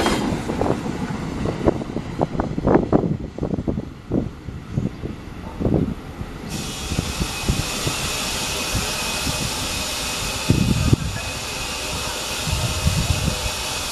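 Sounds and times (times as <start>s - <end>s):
freight train rolling on rails: 0.0s - 13.9s
low rumbling gusts: 0.0s - 13.9s.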